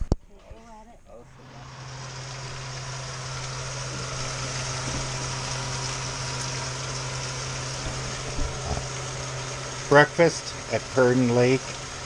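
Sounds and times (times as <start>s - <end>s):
stove low hum: 0.0s - 12.0s
food sizzling in pans: 1.3s - 12.0s.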